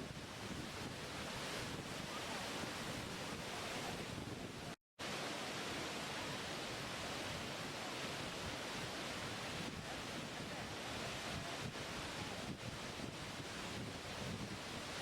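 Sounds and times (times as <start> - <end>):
waterfall rushing: 0.8 - 15.0.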